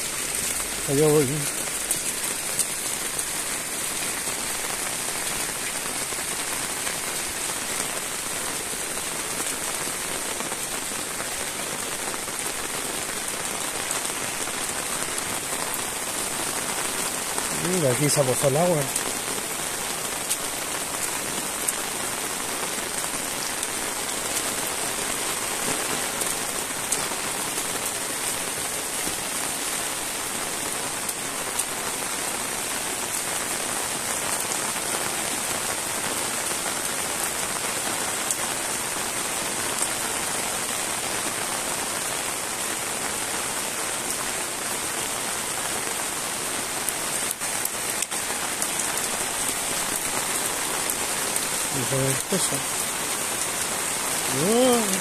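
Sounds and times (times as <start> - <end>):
rain on pavement and rooftops: 0.0 - 55.0.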